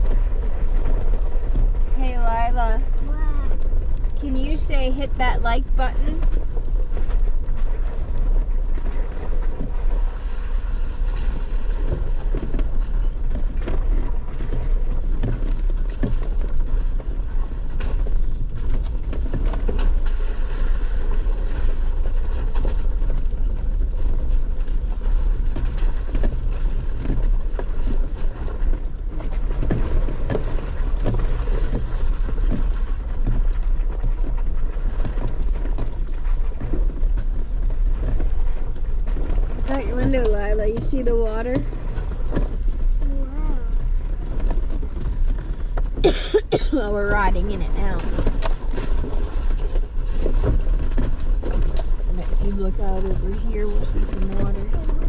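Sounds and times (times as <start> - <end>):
knocks and rattles over bumps: 0.0 - 55.0
low rumble of engine and tyres: 0.0 - 55.0.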